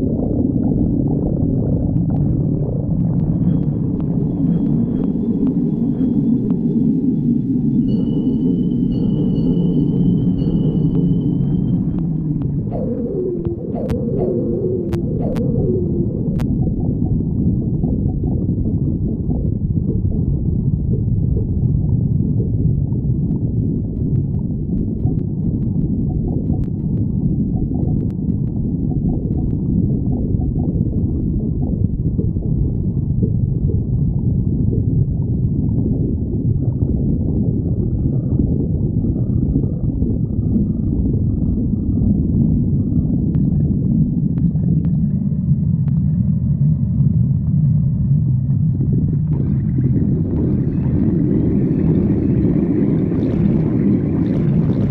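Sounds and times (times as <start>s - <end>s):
stomach growling: 0.0s - 7.6s, 10.3s - 54.9s.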